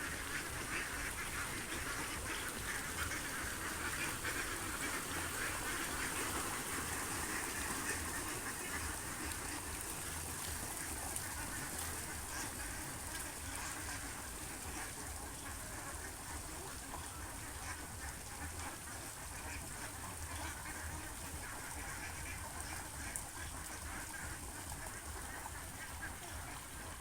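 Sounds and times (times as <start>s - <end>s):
ducks quacking: 0.0s - 27.0s
geese honking: 0.0s - 27.0s.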